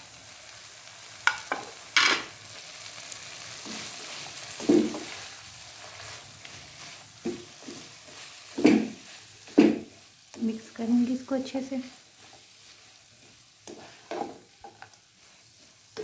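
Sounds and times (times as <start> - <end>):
faint sizzle: 0.0 - 16.0
spatula stirring in a pan: 0.2 - 16.0.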